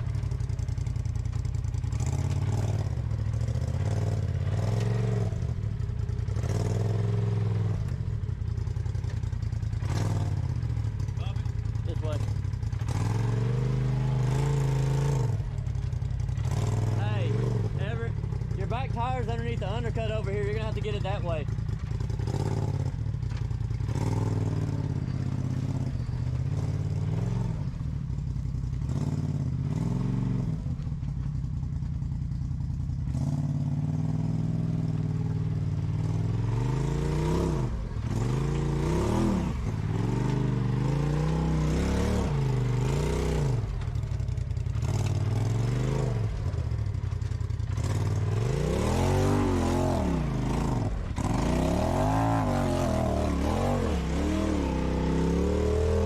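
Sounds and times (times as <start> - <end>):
clatter: 0.0 - 54.7
off-road vehicle engine revving: 0.0 - 56.0.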